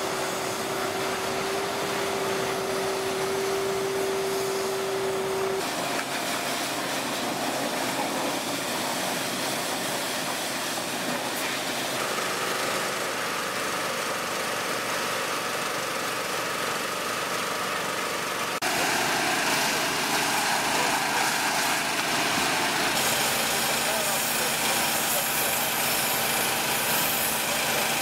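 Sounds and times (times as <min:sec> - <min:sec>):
high-pressure water jets hissing: 0:00.0 - 0:15.5, 0:18.4 - 0:28.0
small gasoline engines running: 0:00.0 - 0:28.0.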